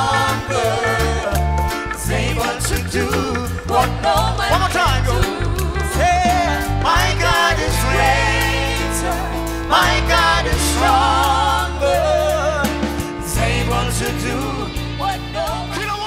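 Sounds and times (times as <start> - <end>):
live gospel band: 0.0 - 16.0
man and women singing: 0.0 - 16.0.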